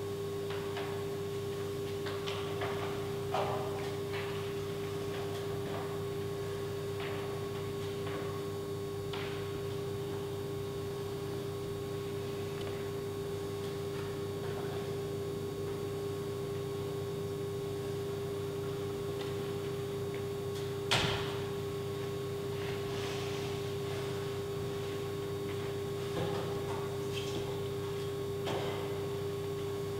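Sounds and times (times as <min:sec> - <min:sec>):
steady hum: 0:00.0 - 0:29.9.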